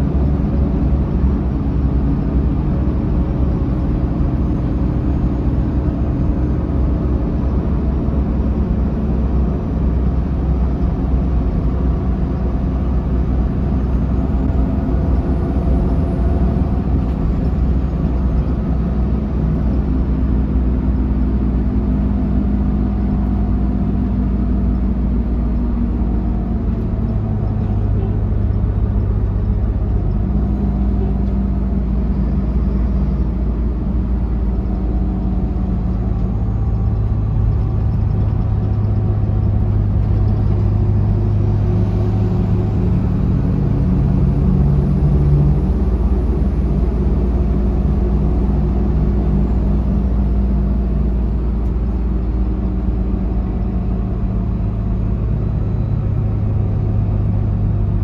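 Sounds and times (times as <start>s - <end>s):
bus engine drone: 0.0s - 58.0s
faint transmission whine: 0.0s - 58.0s
road rumble: 0.0s - 58.0s.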